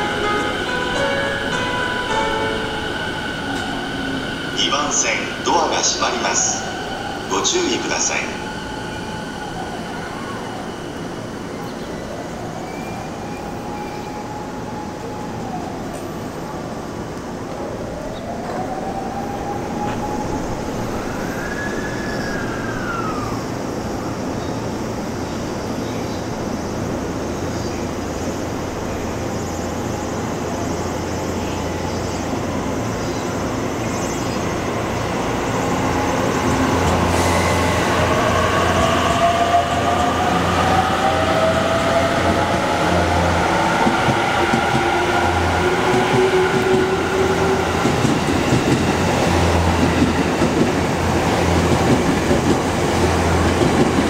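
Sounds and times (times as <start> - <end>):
train pulling into platform: 0.0 - 54.0
train running past: 0.0 - 54.0.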